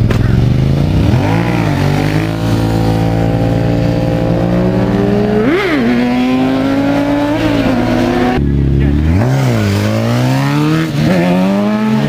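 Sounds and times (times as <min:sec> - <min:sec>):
motorcycle engine accelerating hard: 0:00.0 - 0:12.0.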